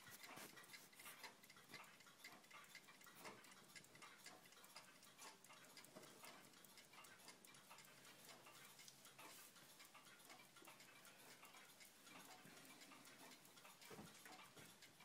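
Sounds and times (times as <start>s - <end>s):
mechanical watch ticking: 0.0s - 15.0s.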